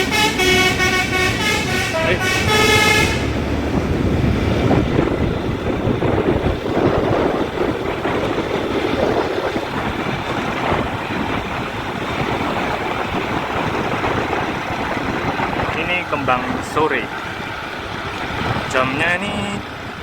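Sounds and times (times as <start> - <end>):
road traffic passing: 0.0 - 20.0
wind on microphone: 0.0 - 20.0.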